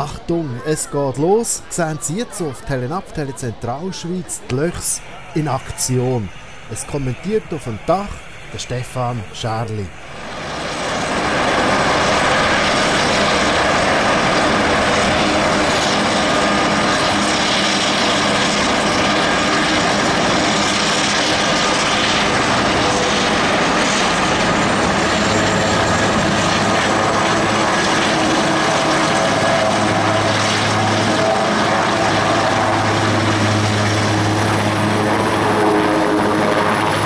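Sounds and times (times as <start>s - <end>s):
helicopter flying overhead: 0.0s - 37.0s
helicopter turbines and rotors running: 0.0s - 37.0s.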